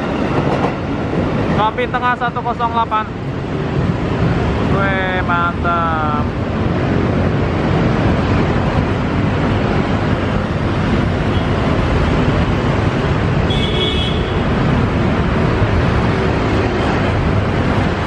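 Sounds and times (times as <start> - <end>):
road traffic roar: 0.0 - 18.0.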